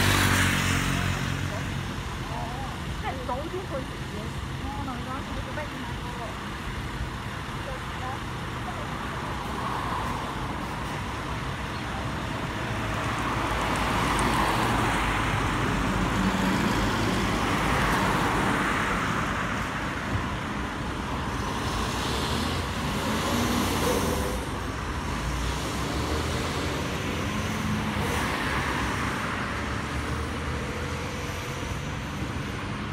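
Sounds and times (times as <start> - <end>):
background traffic: 0.0 - 32.9
cars passing: 0.0 - 32.9.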